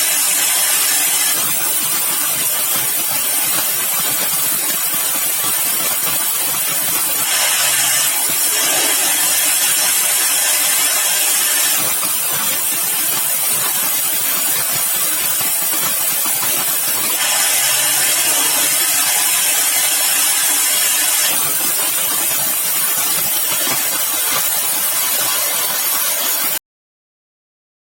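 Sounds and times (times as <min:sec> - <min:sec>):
sawmill machinery hissing: 0:00.0 - 0:26.6.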